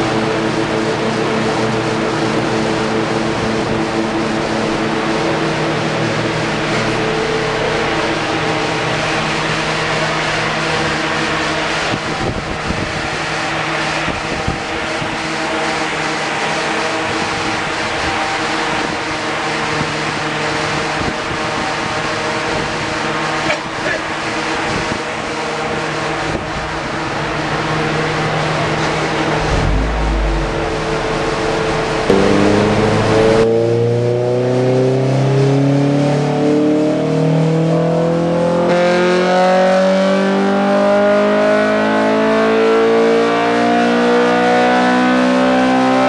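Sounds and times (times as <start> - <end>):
car engine running steadily: 0.0 - 46.0
loud steady rushing noise: 0.0 - 46.0.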